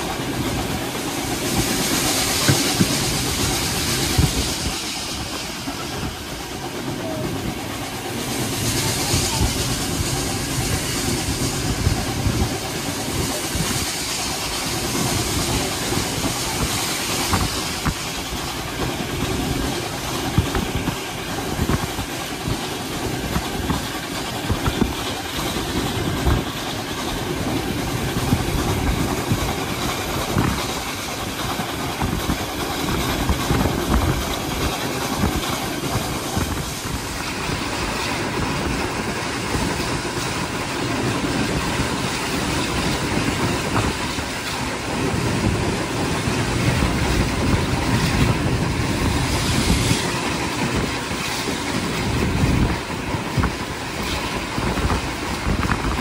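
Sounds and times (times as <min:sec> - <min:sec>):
train rumble: 0:00.0 - 0:56.0
wheels clicking over rail joints: 0:00.0 - 0:56.0.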